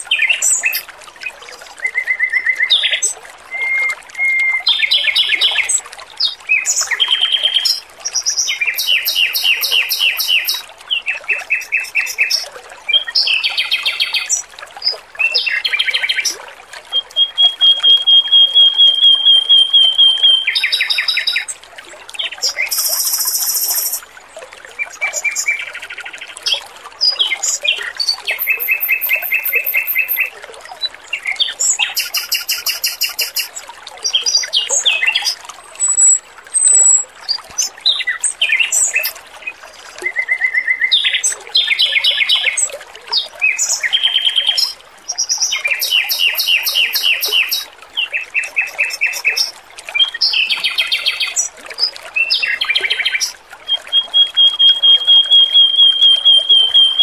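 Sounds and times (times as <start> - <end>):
trickle of running water: 0.0 - 57.0
bird singing trills and chirps: 1.9 - 21.6, 22.2 - 24.0, 26.5 - 30.3, 31.2 - 39.2, 40.1 - 57.0.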